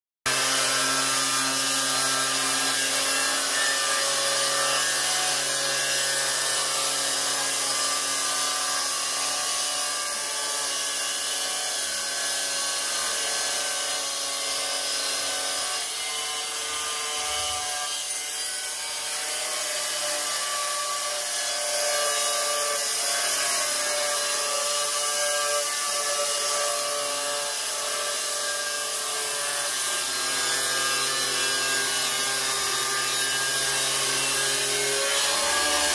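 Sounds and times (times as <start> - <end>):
angle grinder grinding tile: 0.3 - 35.9.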